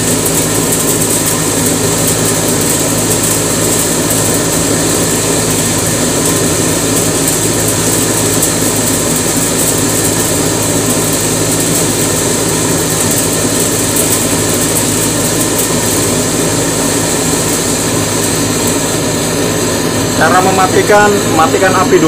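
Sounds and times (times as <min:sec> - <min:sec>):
cotton candy machine humming: 0:00.0 - 0:22.0
gas burner hissing: 0:00.0 - 0:22.0.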